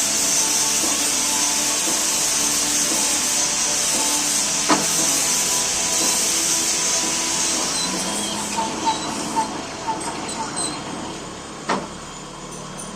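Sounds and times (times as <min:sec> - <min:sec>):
metal lathe running: 0:00.0 - 0:12.9.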